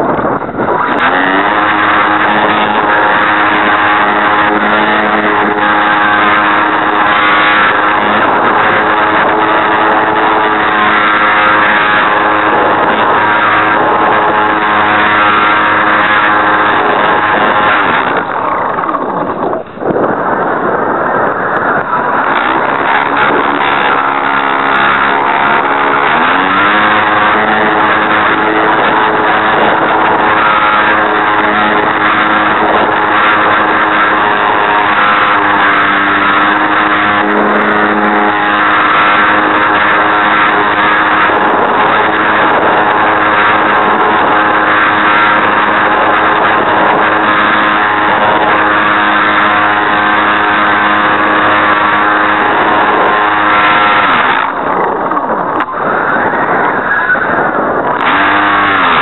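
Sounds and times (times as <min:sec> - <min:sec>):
electric motor and propeller whine: 0:00.0 - 0:59.0
rattly gearbox buzzing: 0:00.0 - 0:59.0.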